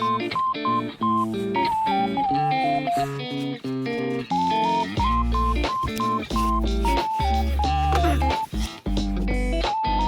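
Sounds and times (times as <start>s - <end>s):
bass guitar: 0.0s - 10.0s.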